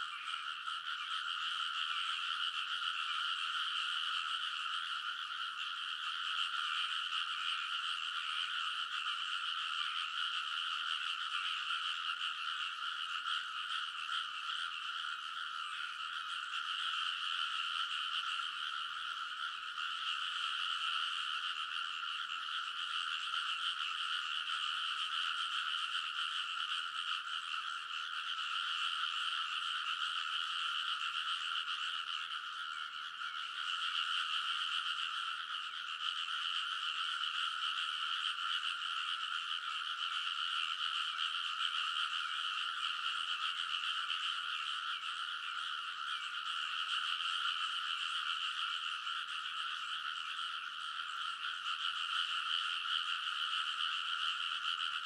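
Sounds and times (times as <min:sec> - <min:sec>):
frog chorus: 0:00.0 - 0:55.0.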